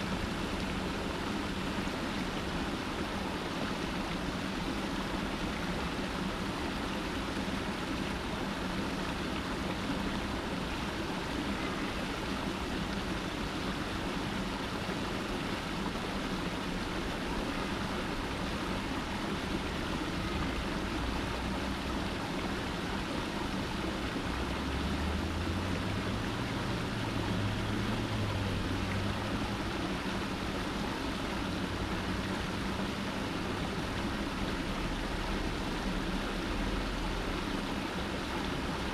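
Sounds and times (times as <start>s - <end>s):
water running over rocks: 0.0s - 38.9s.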